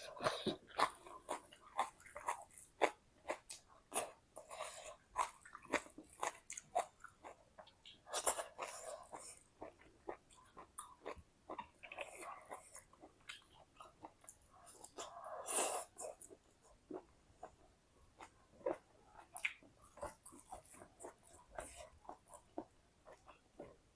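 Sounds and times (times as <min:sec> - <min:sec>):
person chewing: 0:00.0 - 0:17.6, 0:18.2 - 0:23.8.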